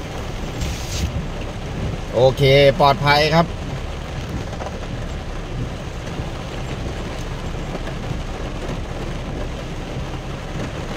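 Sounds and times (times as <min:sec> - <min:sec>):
tyres on wet mud: 0:00.0 - 0:10.9
vehicle engine rumble: 0:00.0 - 0:10.9.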